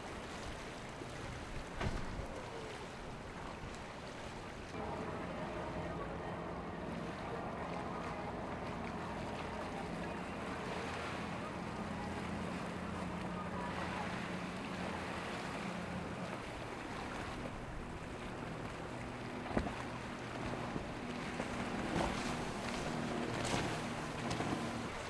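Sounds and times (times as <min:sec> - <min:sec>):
boat engine running: 0:00.0 - 0:25.0
wake and waves rushing: 0:00.0 - 0:25.0.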